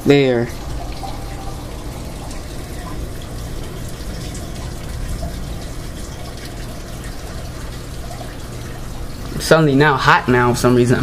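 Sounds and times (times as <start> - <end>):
light rain falling: 0.5 - 9.9.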